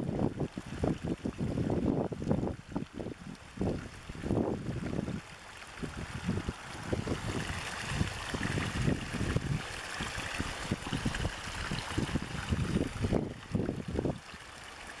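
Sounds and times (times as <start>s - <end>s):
water pouring into a pool: 0.0s - 15.0s.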